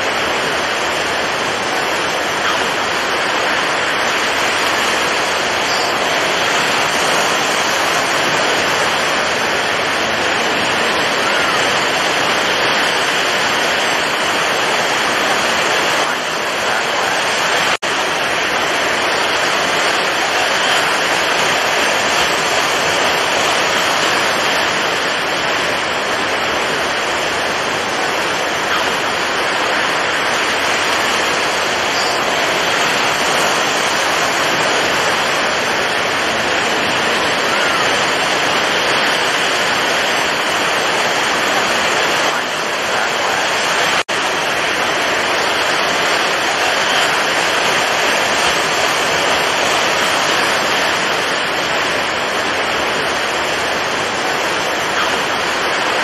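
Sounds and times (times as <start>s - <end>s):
stormy sea waves breaking: 0.0s - 56.0s.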